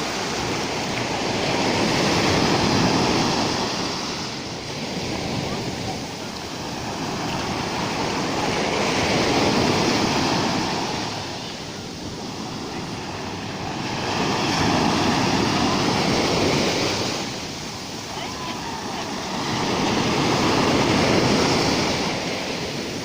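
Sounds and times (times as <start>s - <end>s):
sea waves breaking ashore: 0.0s - 23.0s.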